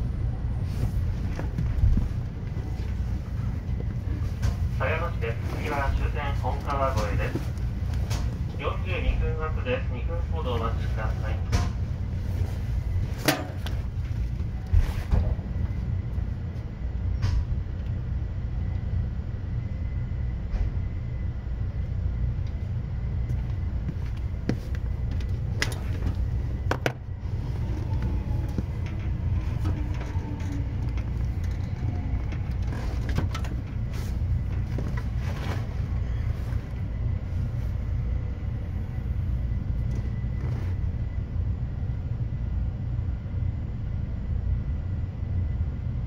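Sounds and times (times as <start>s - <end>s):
train running low rumble: 0.0s - 46.0s.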